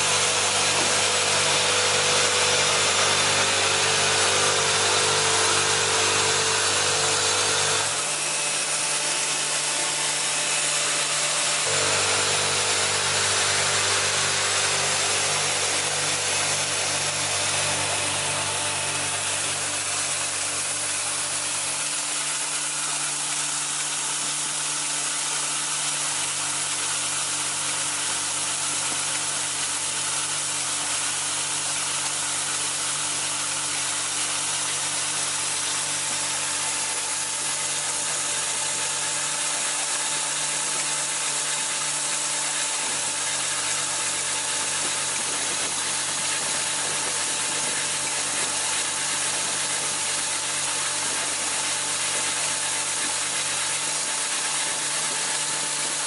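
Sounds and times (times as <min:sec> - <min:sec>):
machine rattling and hissing: 0:00.0 - 0:56.0
steady hum: 0:00.0 - 0:56.0.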